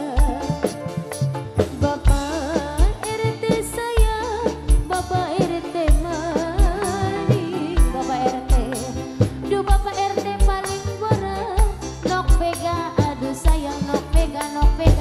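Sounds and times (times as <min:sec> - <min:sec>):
band playing: 0:00.0 - 0:15.0
deep drum beat: 0:00.0 - 0:15.0
woman singing: 0:00.0 - 0:15.0.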